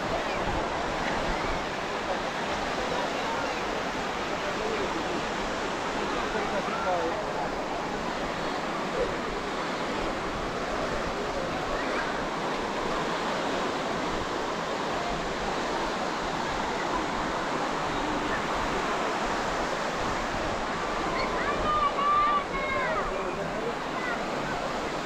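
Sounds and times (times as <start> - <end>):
faint distant voices: 0.0 - 25.0
ocean waves breaking on beach: 0.0 - 25.0.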